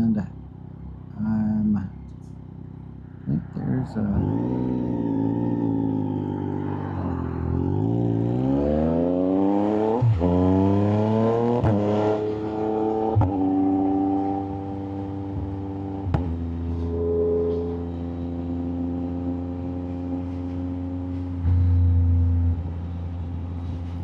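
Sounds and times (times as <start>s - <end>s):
motorcycle engine accelerating: 2.2s - 24.0s.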